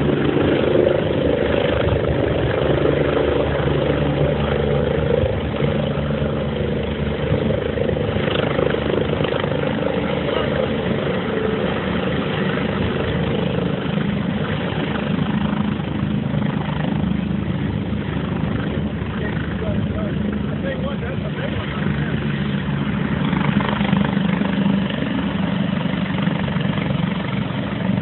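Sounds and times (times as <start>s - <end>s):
helicopter rotor beating: 0.0s - 28.0s
turbine engine running: 0.0s - 28.0s.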